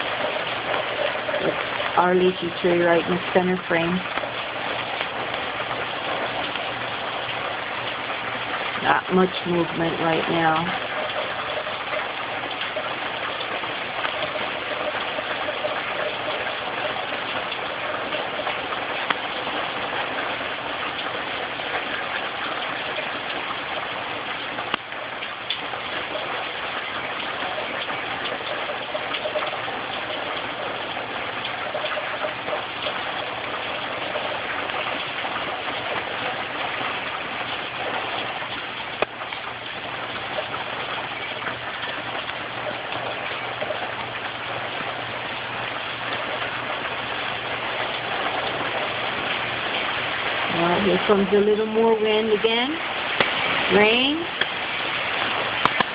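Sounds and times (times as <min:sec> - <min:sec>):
rain falling on a roof: 0:00.0 - 0:55.9
sharp drips: 0:00.0 - 0:55.9.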